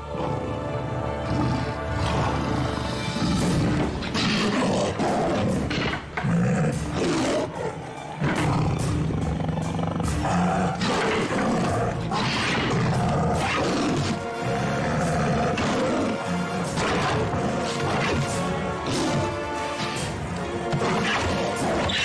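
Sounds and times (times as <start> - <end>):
big cat roaring: 0.0 - 19.6
dramatic orchestral score: 0.0 - 22.0.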